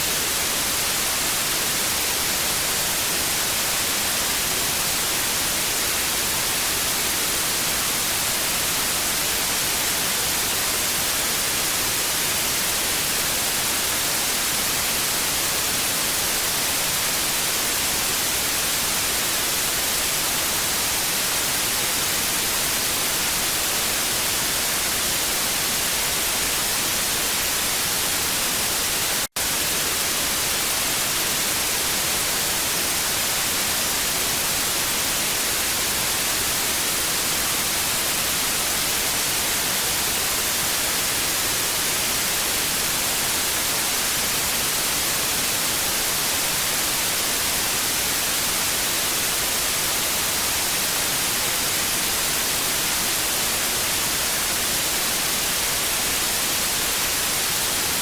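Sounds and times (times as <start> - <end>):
tv static hiss: 0.0 - 58.0.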